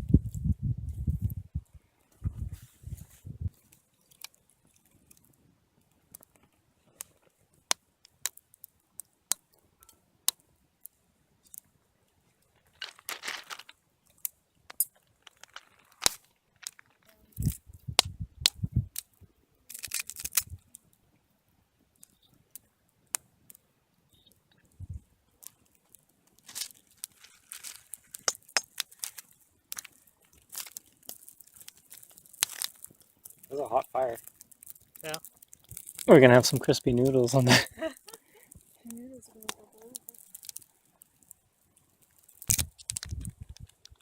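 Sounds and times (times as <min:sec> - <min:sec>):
crinkling bursts: 0:00.0 - 0:08.7, 0:12.3 - 0:21.0, 0:21.9 - 0:44.0
sharp crackles and pops: 0:00.0 - 0:44.0.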